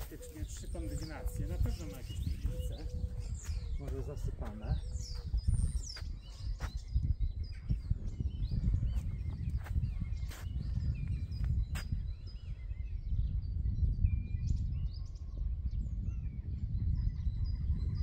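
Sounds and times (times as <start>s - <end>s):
small birds chirping and singing: 0.0s - 18.0s.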